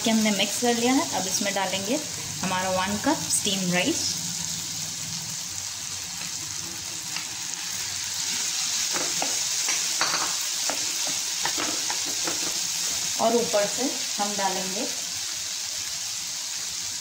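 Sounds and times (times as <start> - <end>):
vegetables and rice sizzling in pan: 0.0 - 17.0.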